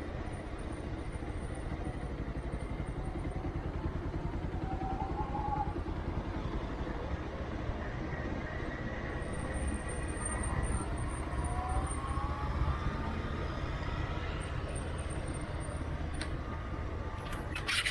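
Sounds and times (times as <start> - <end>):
road vehicle rumbling: 0.0 - 17.9.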